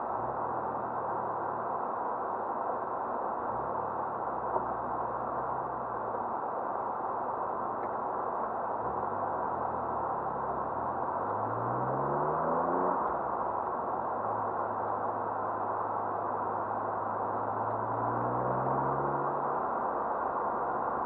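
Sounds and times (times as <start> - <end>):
car engine heard from inside: 0.0 - 21.0
road and cabin noise hiss: 0.0 - 21.0.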